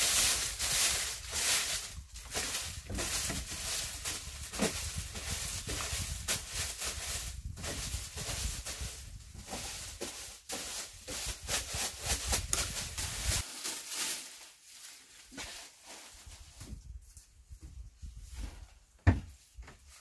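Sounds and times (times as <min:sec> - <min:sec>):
dry grass and leaves crackling: 0:00.0 - 0:16.7.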